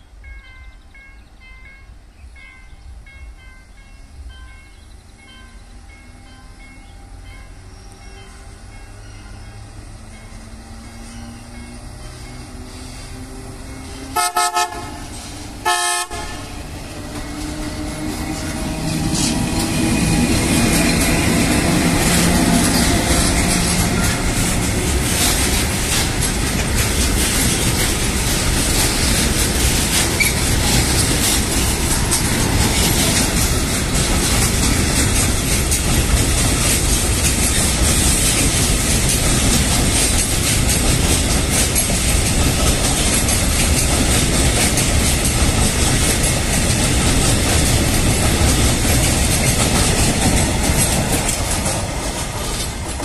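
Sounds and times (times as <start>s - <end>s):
electric locomotive hum: 0.0s - 53.0s
train wheels rumbling on rails: 0.0s - 53.0s.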